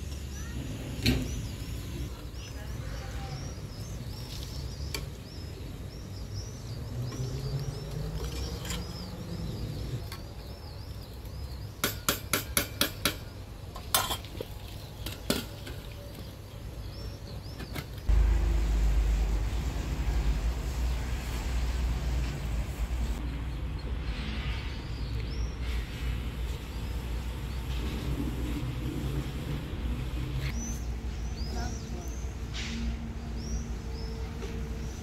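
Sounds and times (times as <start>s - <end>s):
small birds chirping: 0.0s - 18.2s, 19.3s - 35.0s.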